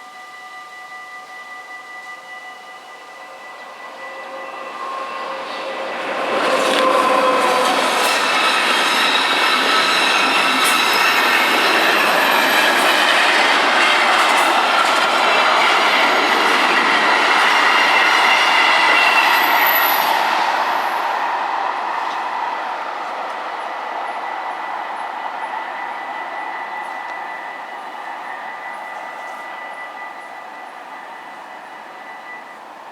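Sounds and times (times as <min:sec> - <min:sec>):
train wheels on rails: 0:00.0 - 0:32.9
train wheels squealing: 0:00.0 - 0:32.9.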